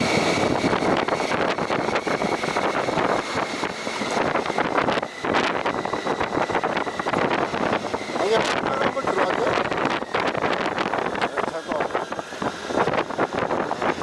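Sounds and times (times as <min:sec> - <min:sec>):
motorcycle engine: 0:00.0 - 0:14.0
road noise: 0:00.0 - 0:14.0
wind buffeting microphone: 0:00.0 - 0:14.0.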